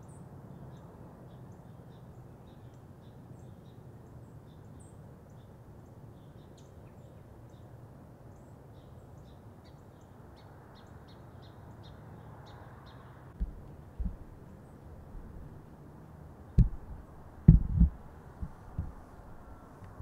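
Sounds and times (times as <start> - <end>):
low background noise: 0.0 - 20.0
small birds chirping faintly: 0.0 - 20.0.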